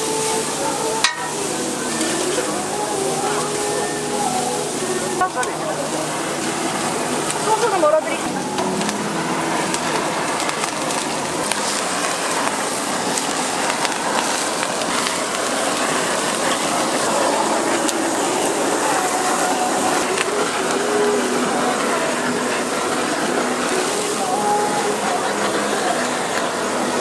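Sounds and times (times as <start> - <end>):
blowtorch hissing: 0.0 - 27.0
faint voices: 0.0 - 27.0
food sizzling on griddle: 0.0 - 27.0.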